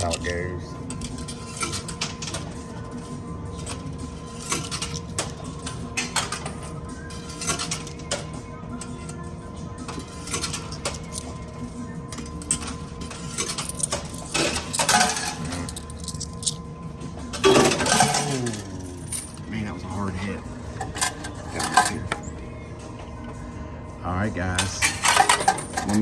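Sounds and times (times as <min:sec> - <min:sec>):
coins clinking and clattering: 0:00.0 - 0:09.2, 0:09.9 - 0:16.6, 0:17.3 - 0:19.6, 0:20.7 - 0:22.4, 0:24.6 - 0:26.0.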